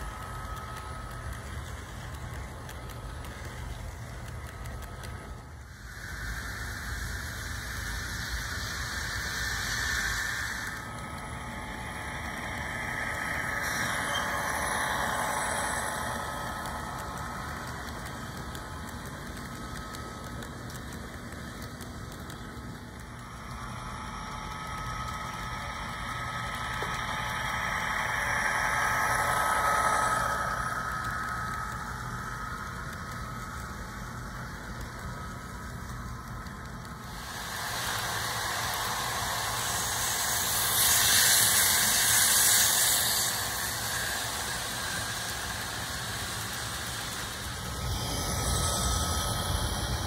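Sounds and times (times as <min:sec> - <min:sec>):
model diesel locomotive engine sound: 0:00.0 - 0:50.0
model train wheels rolling: 0:00.0 - 0:50.0.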